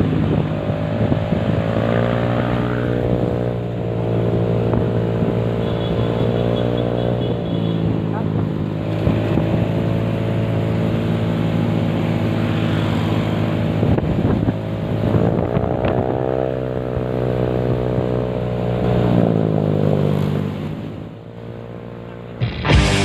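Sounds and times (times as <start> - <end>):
motorcycle engine revving: 0.0 - 20.7, 22.0 - 23.0.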